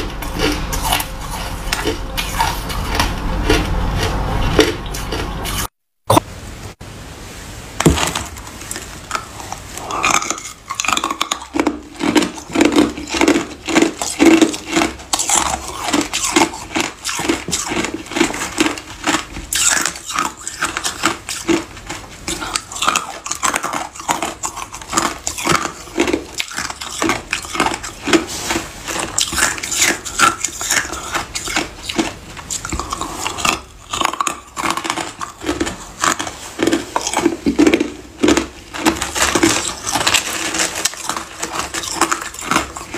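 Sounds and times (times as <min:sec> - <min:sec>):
ice being chewed: 0:00.0 - 0:05.7, 0:07.8 - 0:42.9.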